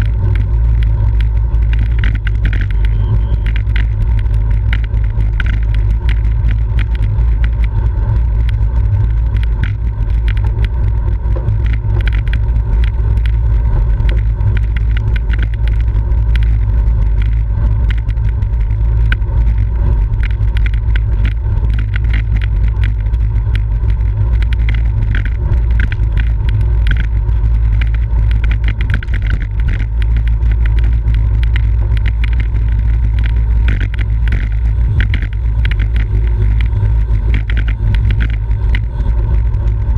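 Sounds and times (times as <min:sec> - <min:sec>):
small clicks and rattles: 0:00.0 - 0:39.9
wind rumbling on microphone: 0:00.0 - 0:39.9.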